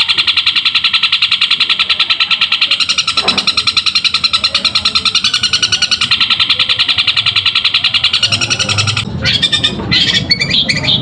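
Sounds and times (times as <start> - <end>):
bird chattering high notes: 0.0 - 11.0.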